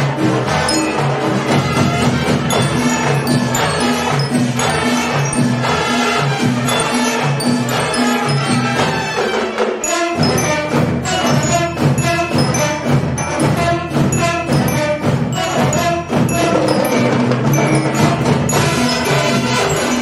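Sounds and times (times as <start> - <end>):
marching band playing: 0.0 - 20.0.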